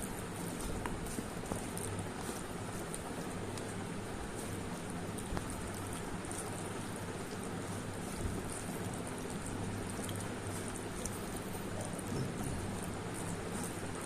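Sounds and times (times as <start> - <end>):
faint eating clicks and taps: 0.0 - 14.0.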